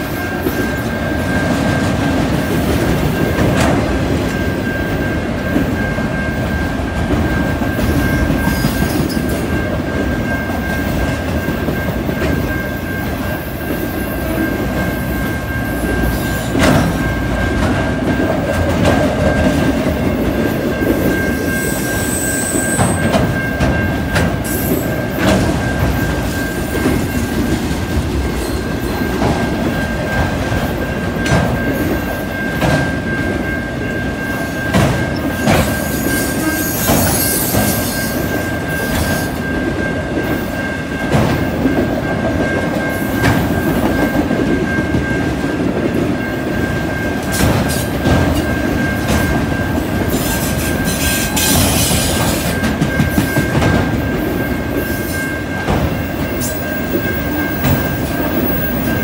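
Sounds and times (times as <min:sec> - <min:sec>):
crossing bell ringing: 0:00.0 - 0:59.0
train wheels rumbling on rail: 0:00.0 - 0:59.0.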